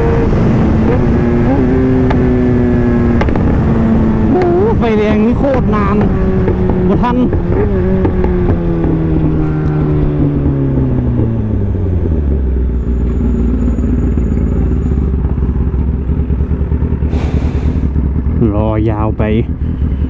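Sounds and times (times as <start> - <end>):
motorcycle engine winding down: 0.0 - 20.0.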